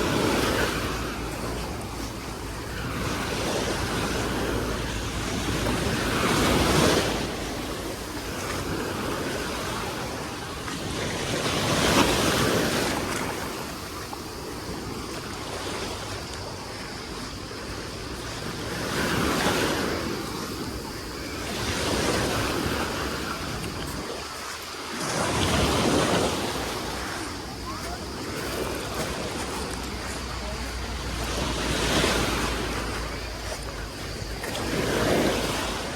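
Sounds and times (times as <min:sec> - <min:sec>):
waves washing up beach: 0:00.0 - 0:35.9.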